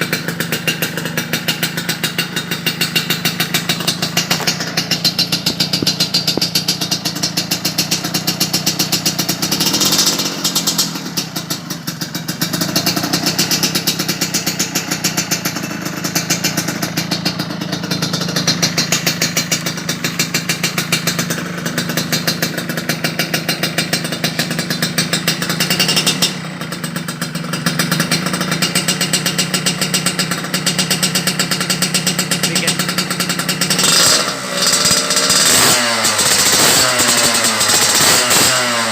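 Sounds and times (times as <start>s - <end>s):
two-stroke motorcycle engine idling: 0.0s - 38.9s.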